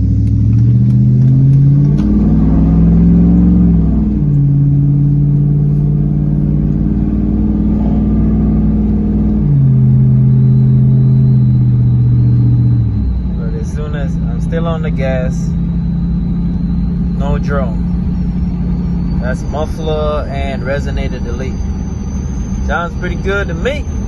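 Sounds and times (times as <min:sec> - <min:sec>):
deep engine exhaust note: 0:00.0 - 0:24.0.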